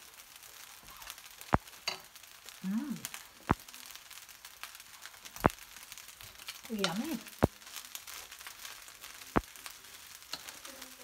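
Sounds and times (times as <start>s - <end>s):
rice sizzling in a wok: 0.0s - 11.0s.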